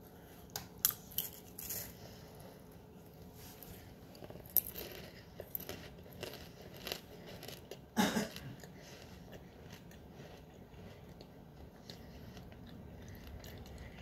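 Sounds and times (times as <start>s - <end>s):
person chewing popcorn: 0.4s - 14.0s.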